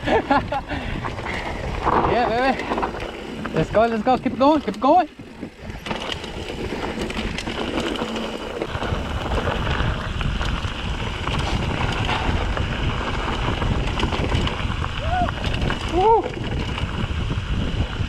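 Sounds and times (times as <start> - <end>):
bike rattles and clicks: 0.0 - 18.0
wind buffeting microphone: 0.0 - 18.0
tyres crunching on rocky trail: 0.9 - 17.6.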